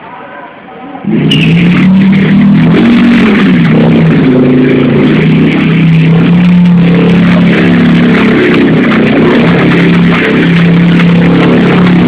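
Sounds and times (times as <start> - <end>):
motorcycle engine revving in burnout: 1.0 - 12.0.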